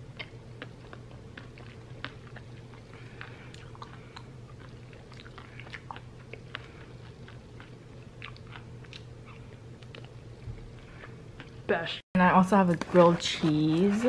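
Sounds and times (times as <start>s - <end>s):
wet chewing and lip smacks: 0.0s - 11.7s
steady low hum: 0.0s - 14.0s.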